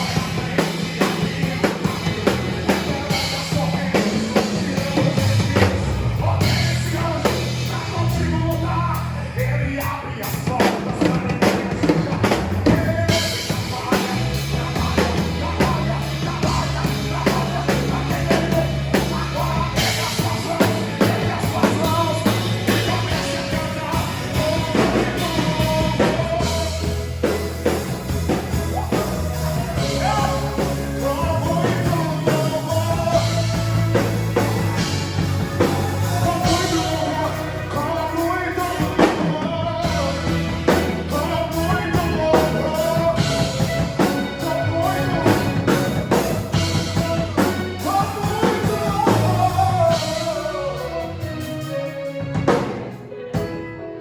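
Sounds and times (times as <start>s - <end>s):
gospel band playing: 0.0s - 54.0s
person singing: 0.0s - 54.0s.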